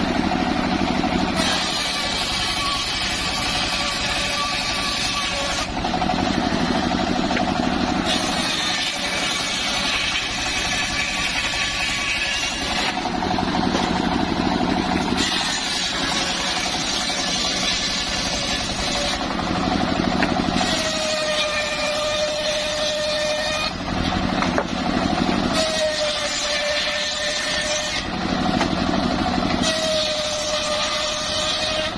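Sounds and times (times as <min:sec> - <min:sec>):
circular sawmill droning: 0:00.0 - 0:31.9.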